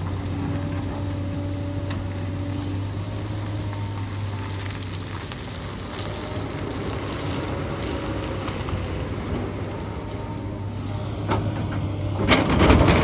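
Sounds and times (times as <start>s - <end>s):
excavator diesel engine running: 0.0s - 13.0s
hydraulic whine: 0.0s - 13.0s.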